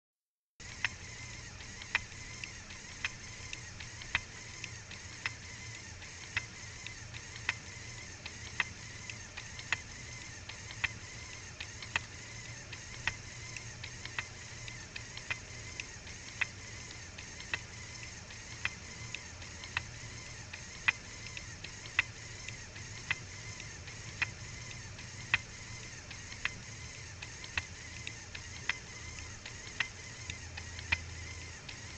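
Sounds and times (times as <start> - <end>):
steady low hum: 0.6 - 31.9.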